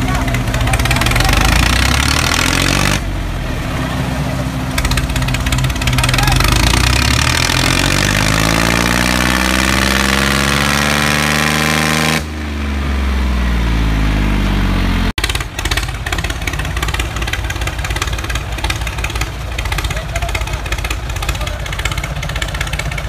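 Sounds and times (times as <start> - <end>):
diesel tractor engines under load: 0.0 - 23.0
rough engine noise: 0.0 - 23.0.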